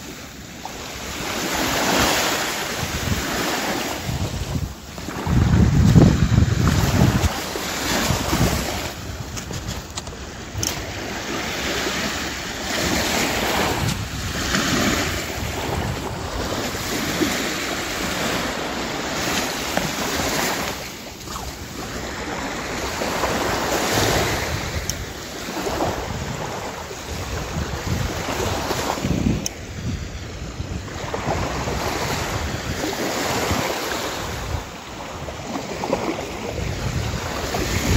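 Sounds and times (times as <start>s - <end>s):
waves washing on sandy beach: 0.0s - 37.9s.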